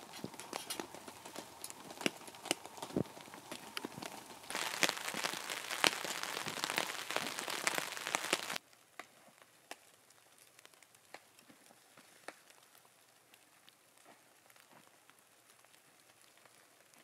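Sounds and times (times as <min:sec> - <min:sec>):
rain on a tarp: 0:00.0 - 0:17.0.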